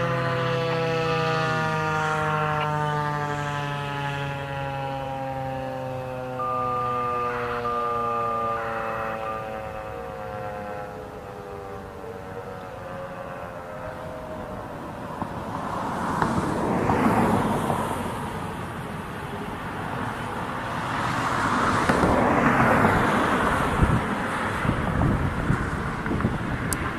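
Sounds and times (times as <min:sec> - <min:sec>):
tornado siren falling tone: 0:00.0 - 0:26.9
vehicles passing: 0:00.0 - 0:26.9.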